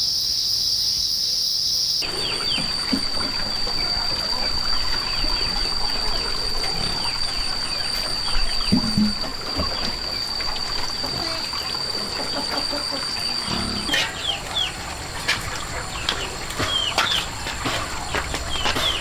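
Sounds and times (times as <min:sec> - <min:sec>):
small birds chirping: 0:02.0 - 0:19.0
water trickling: 0:02.0 - 0:19.0.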